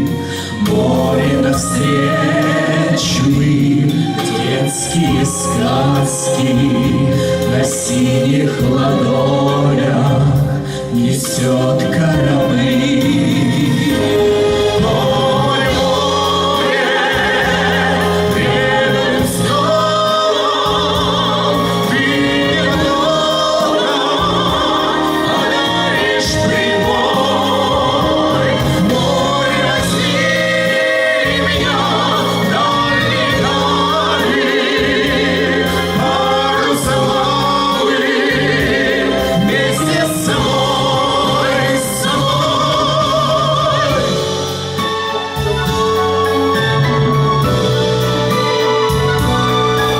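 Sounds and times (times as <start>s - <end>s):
voices singing slow pop song: 0.0s - 49.9s.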